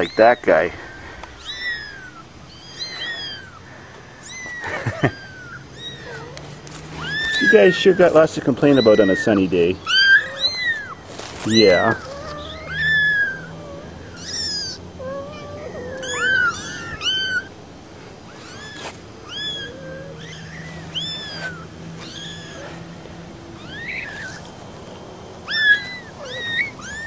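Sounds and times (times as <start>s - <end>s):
kittens mewing: 0.0s - 24.7s, 25.3s - 27.0s.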